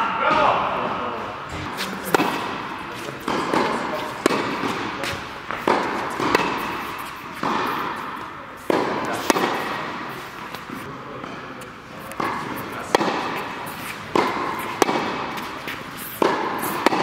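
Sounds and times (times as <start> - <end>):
tennis ball bouncing: 1.5 - 17.0
tennis racket striking ball: 1.5 - 17.0.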